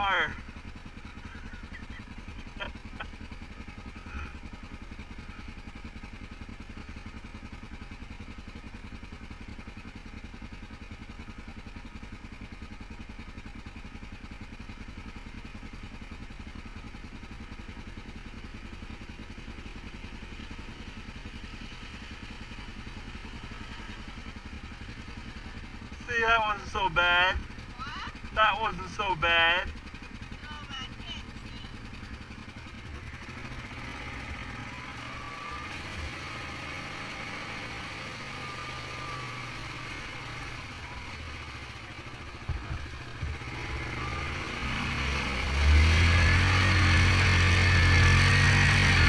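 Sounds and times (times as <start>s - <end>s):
atv engine idling: 0.0s - 49.0s.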